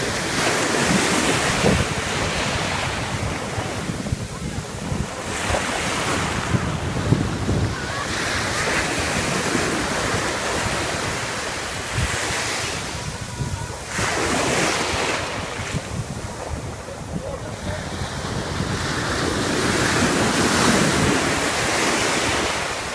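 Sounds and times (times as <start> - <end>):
ocean waves breaking on shore: 0.0 - 22.9
wind buffeting microphone: 0.0 - 22.9.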